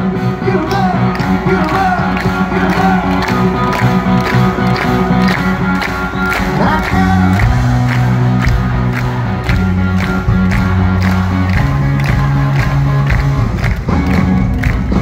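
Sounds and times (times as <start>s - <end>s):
country band playing: 0.0s - 15.0s
crowd cheering: 0.0s - 15.0s.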